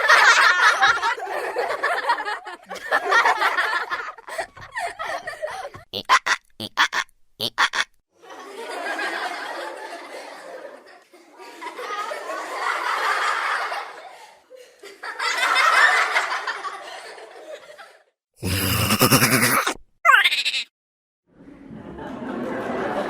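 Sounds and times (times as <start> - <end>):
laughter sound effects: 0.0 - 20.7.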